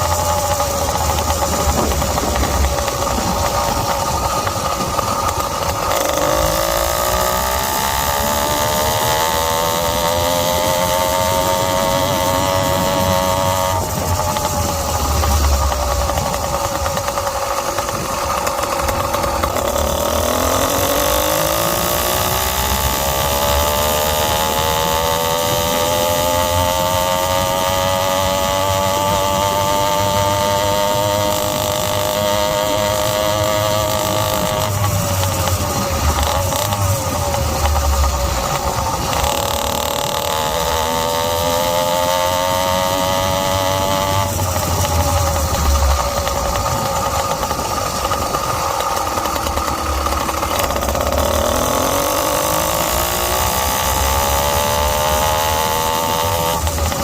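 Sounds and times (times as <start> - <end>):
two-stroke engine revving: 0.0 - 57.0.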